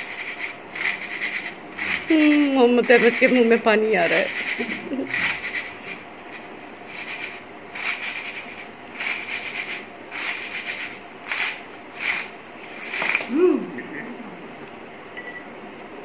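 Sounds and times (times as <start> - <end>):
chips shaken in a steel bowl: 0.0 - 13.3.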